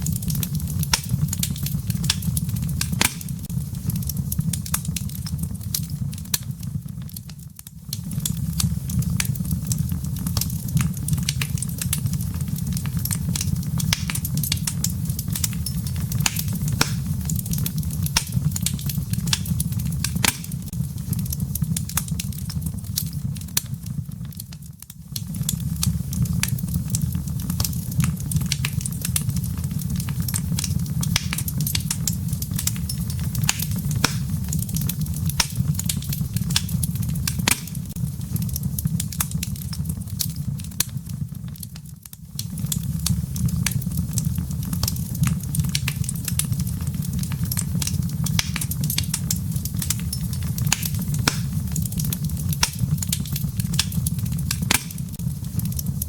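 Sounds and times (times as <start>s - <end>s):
firewood crackling and popping: 0.0s - 56.0s
low rumble of flames: 0.0s - 56.0s.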